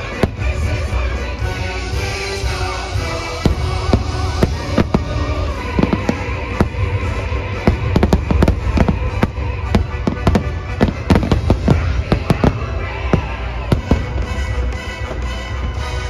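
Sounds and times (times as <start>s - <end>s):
fireworks bangs and pops: 0.0s - 1.0s, 2.9s - 16.0s
show music: 0.0s - 16.0s.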